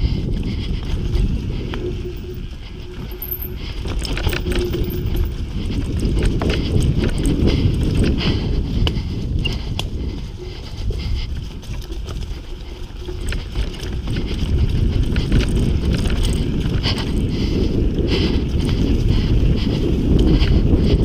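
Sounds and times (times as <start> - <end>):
bike clicks and rattles: 0.0 - 21.0
bike tyre rumble: 0.0 - 21.0
wind buffeting microphone: 0.0 - 21.0.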